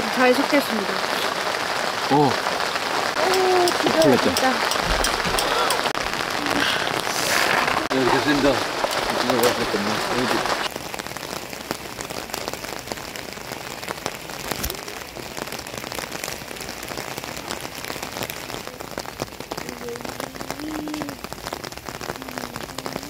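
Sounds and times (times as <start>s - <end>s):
rain pattering on tent fabric: 0.0s - 23.0s.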